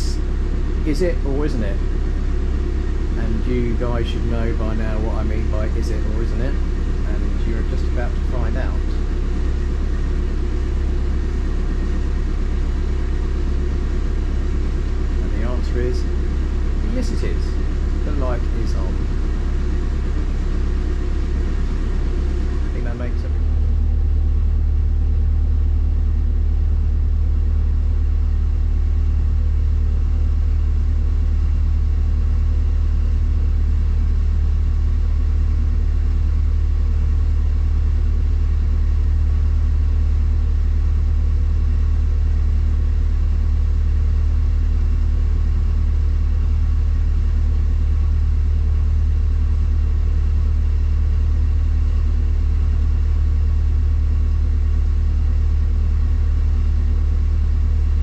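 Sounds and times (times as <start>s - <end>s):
boat diesel engine drone: 0.0s - 58.0s.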